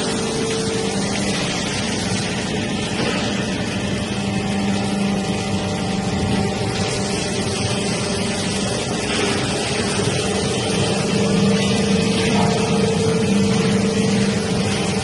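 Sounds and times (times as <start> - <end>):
plate rolling machine humming: 0.0 - 15.0.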